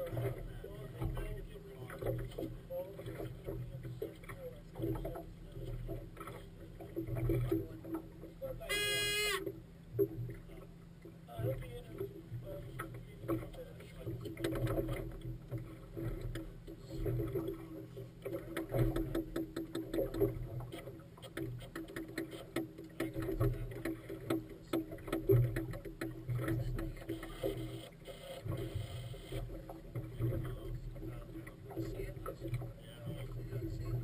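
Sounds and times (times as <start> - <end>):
water slapping against boat: 0.0 - 34.0.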